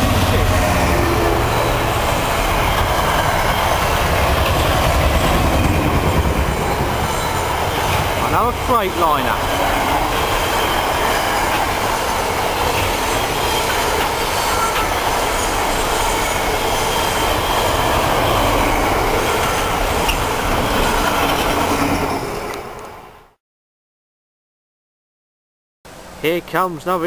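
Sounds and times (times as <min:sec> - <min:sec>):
freight train wheels rumbling: 0:00.0 - 0:23.4.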